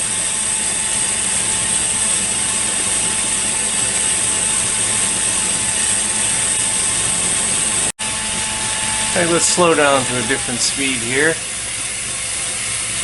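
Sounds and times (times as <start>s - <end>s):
lathe rattling with high whine: 0.0s - 13.0s.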